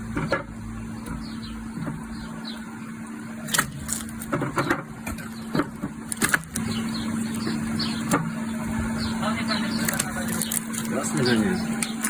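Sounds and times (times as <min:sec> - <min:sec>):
machine motor humming: 0:00.0 - 0:12.0.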